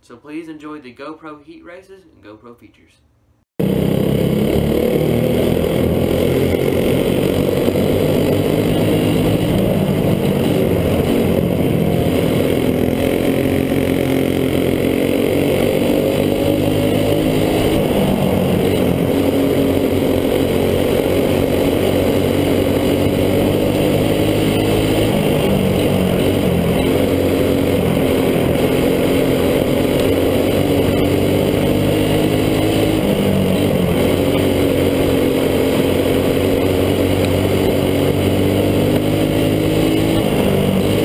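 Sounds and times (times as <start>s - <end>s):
go-kart engine at high revs: 3.6s - 41.0s.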